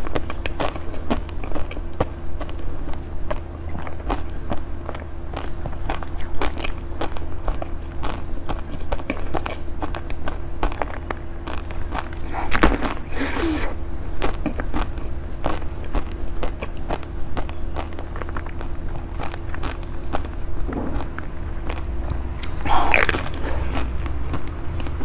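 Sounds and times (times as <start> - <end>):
wet eating clicks and lip smacks: 0.0 - 25.0
loud bite: 0.1 - 25.0.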